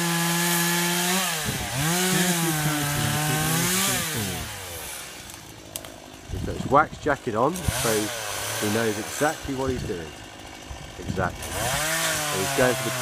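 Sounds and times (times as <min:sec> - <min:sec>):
chainsaw cutting tree trunk: 0:00.0 - 0:13.0.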